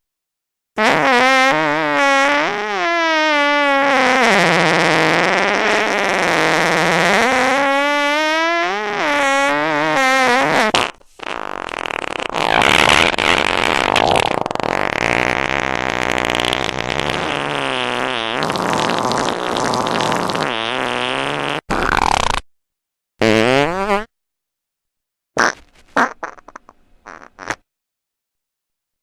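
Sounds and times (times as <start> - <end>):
fart sounds: 0.8 - 22.5, 23.2 - 24.1, 25.4 - 27.7.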